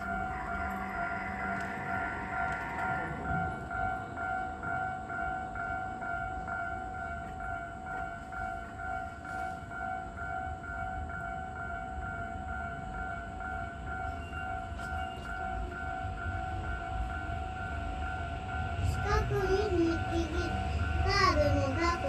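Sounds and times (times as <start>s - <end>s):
electric train passing: 0.0s - 22.0s.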